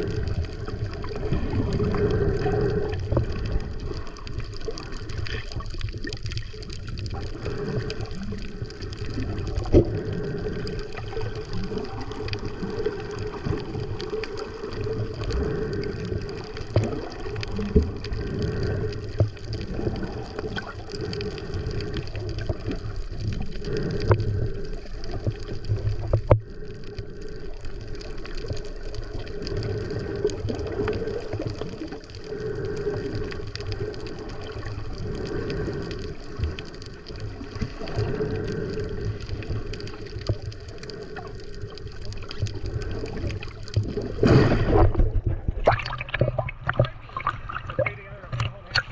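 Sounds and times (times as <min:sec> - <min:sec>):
water sloshing and gurgling: 0:00.0 - 0:48.9.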